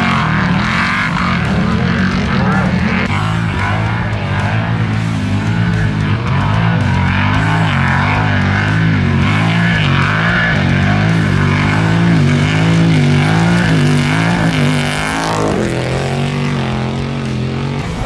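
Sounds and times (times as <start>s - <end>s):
rock music: 0.0s - 18.0s
truck engine revving: 0.0s - 18.0s.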